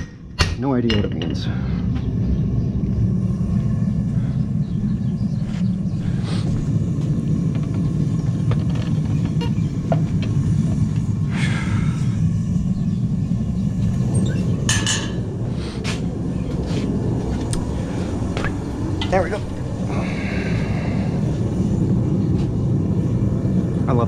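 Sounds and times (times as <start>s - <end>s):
forge low rumble: 0.0s - 24.0s.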